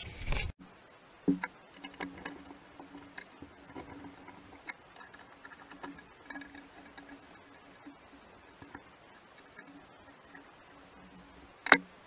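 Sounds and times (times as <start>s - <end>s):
metal clicks and taps: 1.3s - 11.9s.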